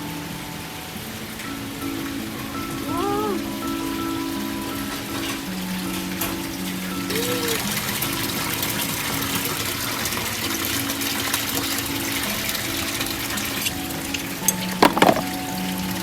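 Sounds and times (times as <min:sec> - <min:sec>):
soft background music: 0:00.0 - 0:16.0
water rushing: 0:00.0 - 0:16.0.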